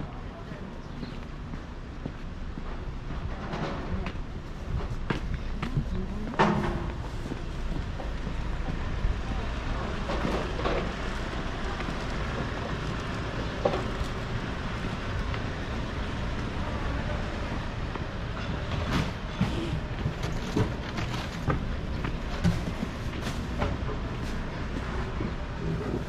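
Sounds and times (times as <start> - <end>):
city street rumble: 0.0 - 26.0.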